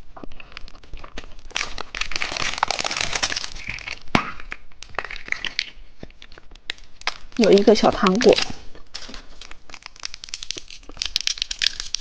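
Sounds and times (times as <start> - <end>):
plastic packaging crinkling: 0.5 - 12.0.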